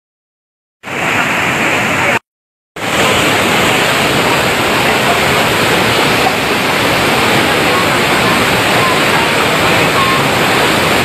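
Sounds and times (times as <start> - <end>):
rushing waterfall water: 0.8 - 2.2, 2.8 - 11.0.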